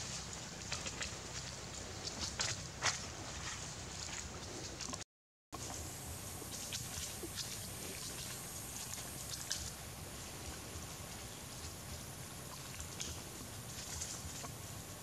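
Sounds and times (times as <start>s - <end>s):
outdoor background hiss: 0.0s - 5.0s, 5.6s - 15.0s.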